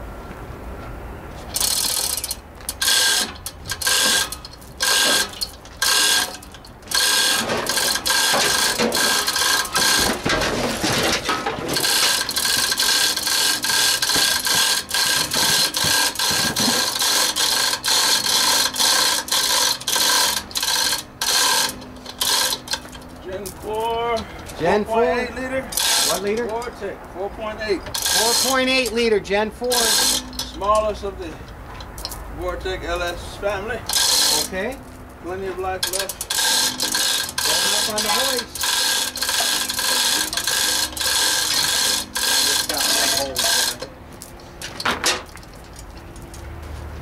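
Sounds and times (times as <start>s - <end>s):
chain hoist ratcheting clicks: 1.5s - 25.0s, 25.7s - 26.8s, 27.9s - 33.2s, 33.9s - 46.5s.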